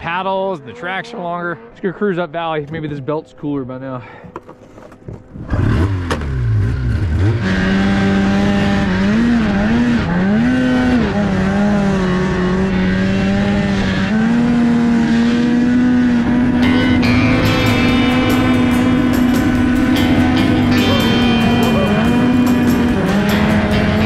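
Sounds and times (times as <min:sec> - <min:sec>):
snowmobile engine revving: 0:00.0 - 0:02.6, 0:05.4 - 0:24.0.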